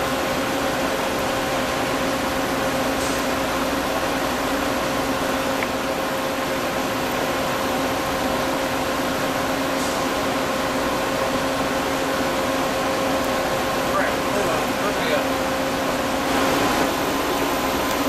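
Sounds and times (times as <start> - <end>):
fan-like noise: 0.0 - 18.0
welding machine humming: 0.0 - 18.0.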